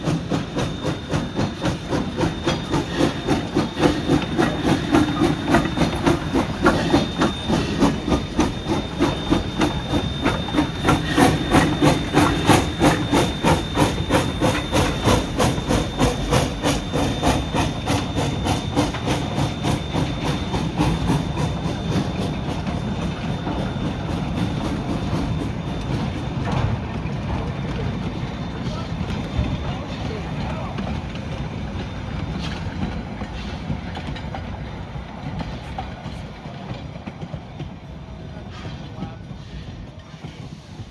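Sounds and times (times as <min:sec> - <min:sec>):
steam hissing: 0:00.0 - 0:37.4, 0:38.2 - 0:40.9
steam locomotive exhaust chuffs: 0:00.0 - 0:40.9.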